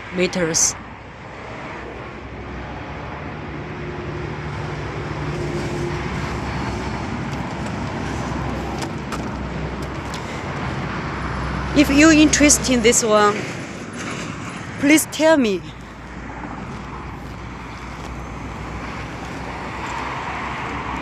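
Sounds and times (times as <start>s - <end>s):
truck diesel engine running: 2.4s - 13.3s, 14.4s - 21.0s.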